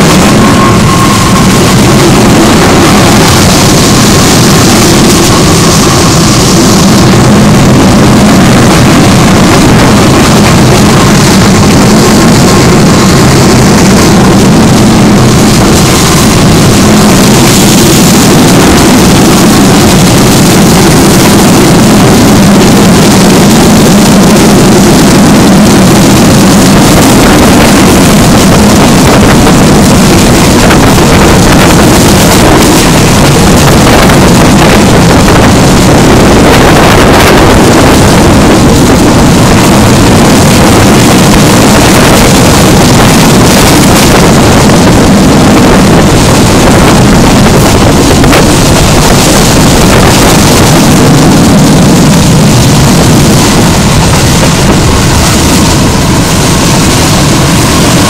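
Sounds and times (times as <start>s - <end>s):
passenger train rushing: 0.0s - 58.0s
wind buffeting microphone: 0.0s - 58.0s.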